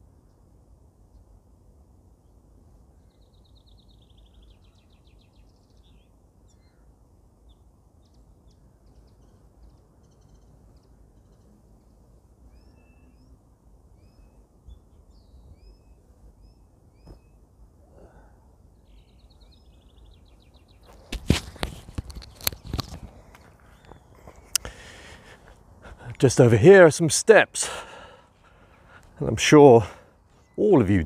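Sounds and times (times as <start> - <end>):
songbirds singing: 0.0 - 31.0.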